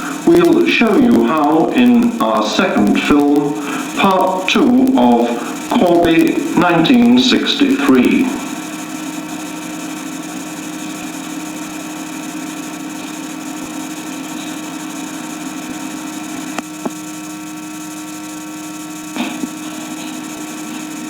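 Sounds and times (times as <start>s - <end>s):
electrical hum with hiss: 0.0s - 21.0s.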